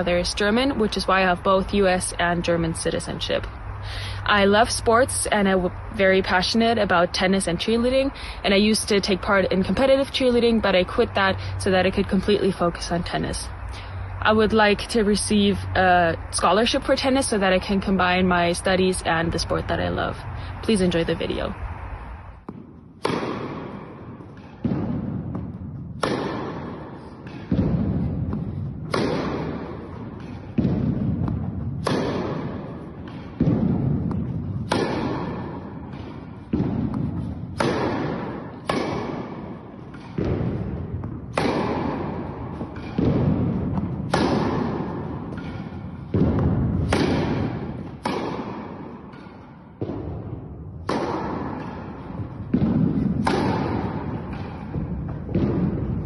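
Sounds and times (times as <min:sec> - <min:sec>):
racket hitting tennis ball: 0:00.0 - 0:03.6, 0:04.3 - 0:56.0.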